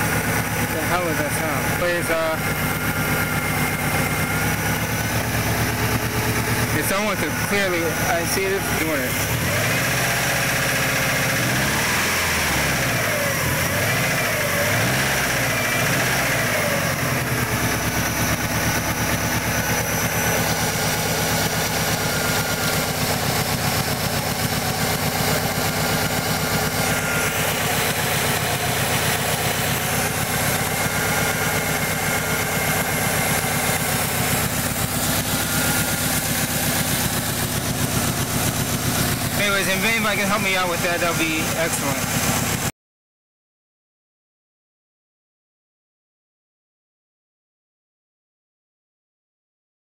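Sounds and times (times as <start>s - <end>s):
car engine revving and idling: 0.0s - 42.7s
engine knocking: 0.0s - 42.7s.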